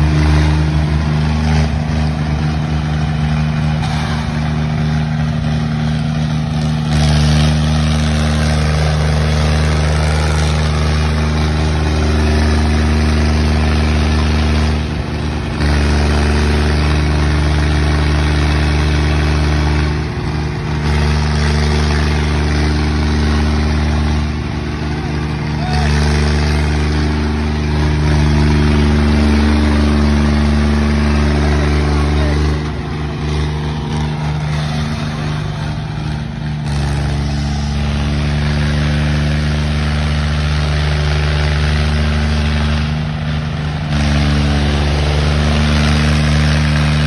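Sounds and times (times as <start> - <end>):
tractor engines under load: 0.0 - 47.0.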